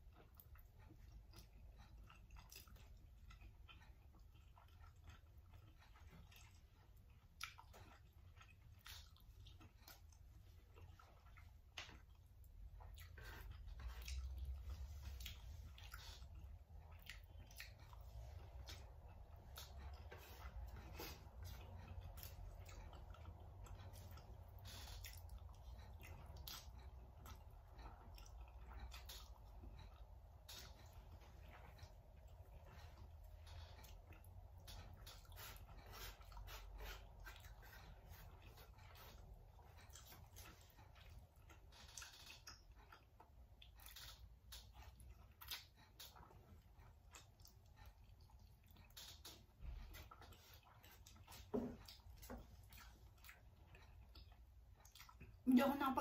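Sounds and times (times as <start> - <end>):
person chewing and slurping noodles: 0.0 - 55.4
low steady hum: 0.0 - 56.0.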